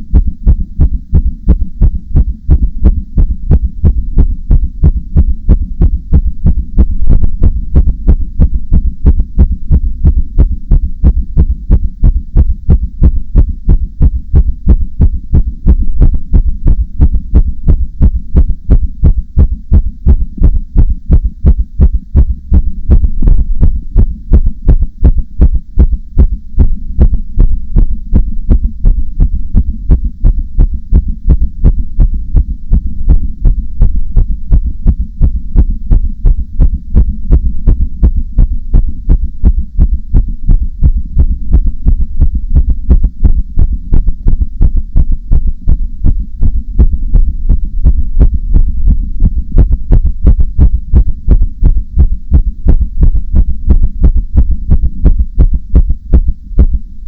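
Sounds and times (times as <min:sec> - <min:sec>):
human heartbeat: 0:00.0 - 0:56.9.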